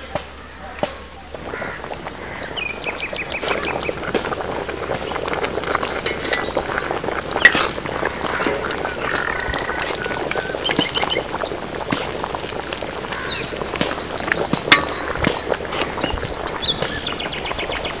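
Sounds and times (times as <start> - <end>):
curry boiling and bubbling: 0.0 - 18.0
small birds trilling: 0.4 - 18.0.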